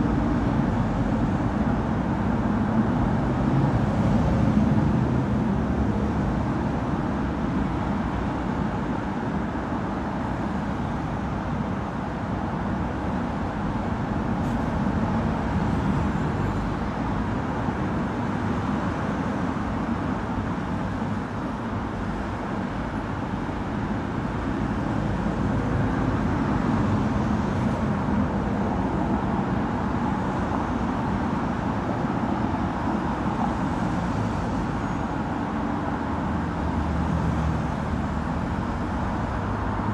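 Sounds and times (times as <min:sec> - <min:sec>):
expressway traffic: 0:00.0 - 0:39.9.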